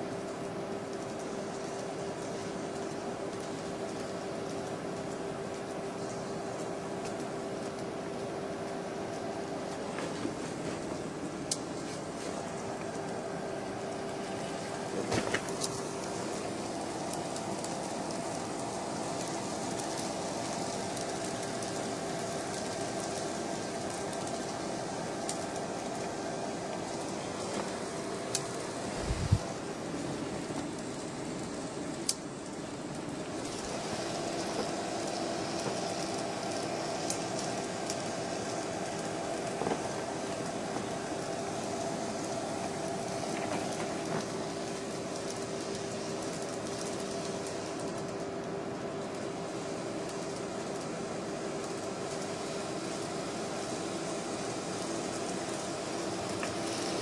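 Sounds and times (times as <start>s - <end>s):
model train motor hum: 1.0s - 57.0s.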